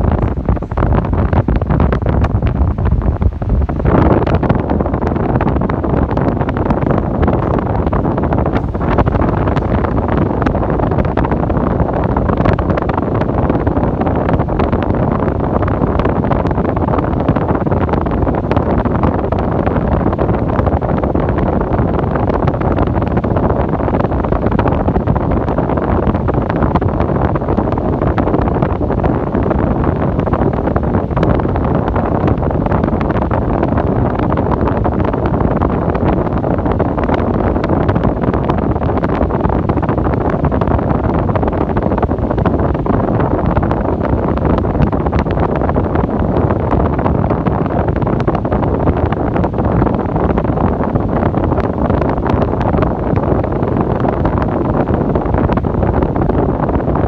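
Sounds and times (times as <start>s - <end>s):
electric fan airflow on microphone: 0.0s - 57.0s.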